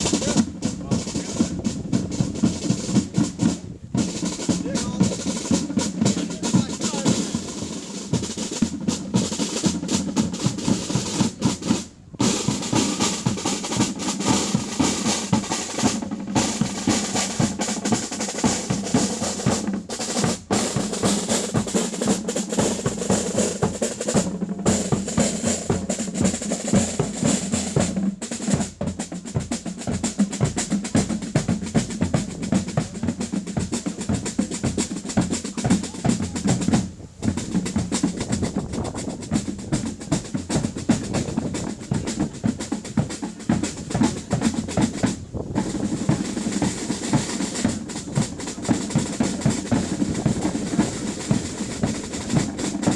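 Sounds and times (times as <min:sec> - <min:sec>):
bass drum beat: 0:00.0 - 0:52.9
snare drum rolls: 0:00.0 - 0:52.9.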